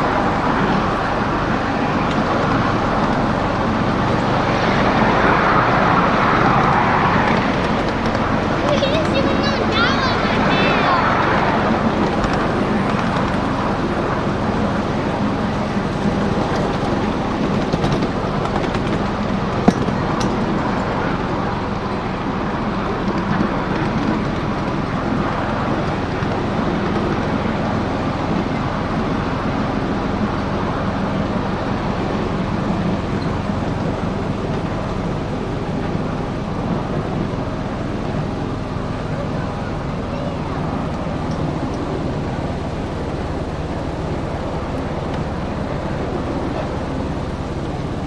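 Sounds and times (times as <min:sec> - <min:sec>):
miniature train wheels rumbling: 0:00.0 - 0:48.0.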